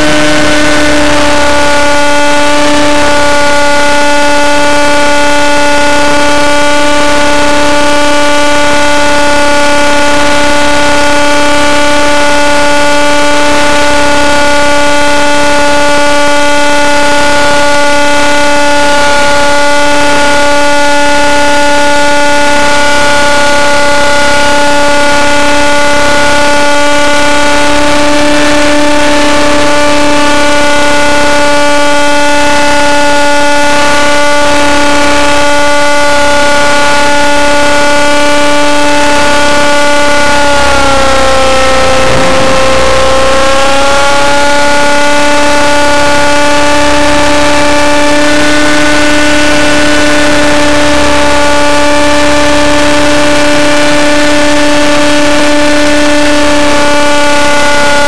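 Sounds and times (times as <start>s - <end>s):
rc helicopter engine whine: 0.0s - 58.0s.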